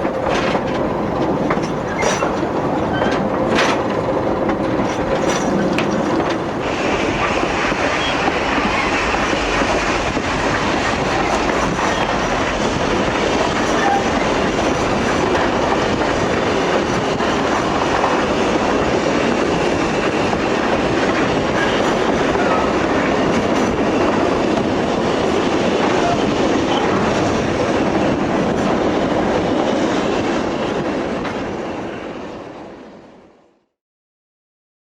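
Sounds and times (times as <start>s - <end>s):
train wheels on rails: 0.0s - 33.1s.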